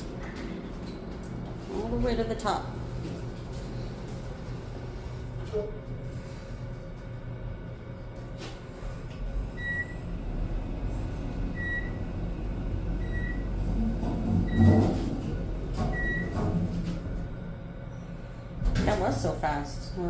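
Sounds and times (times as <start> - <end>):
elevator low rumble: 0.0 - 20.0.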